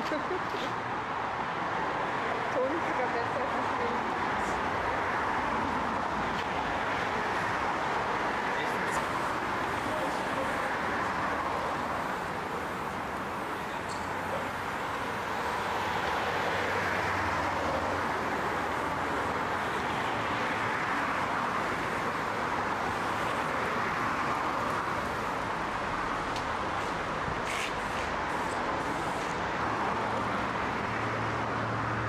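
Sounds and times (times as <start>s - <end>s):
road traffic rush: 0.0s - 32.0s.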